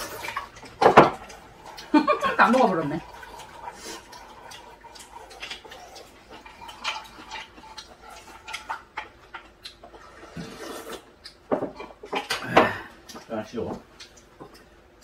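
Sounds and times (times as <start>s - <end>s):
eating sounds: 0.0s - 15.0s.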